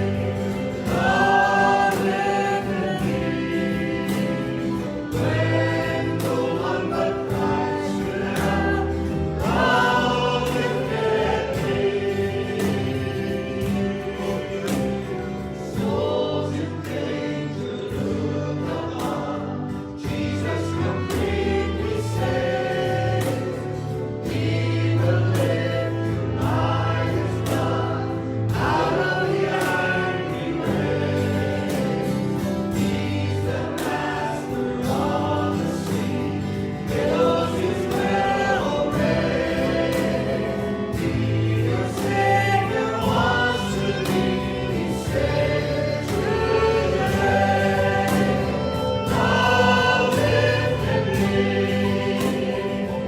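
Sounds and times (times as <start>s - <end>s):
band with bass and beat: 0.0s - 53.0s
congregation singing worship song: 0.0s - 53.0s.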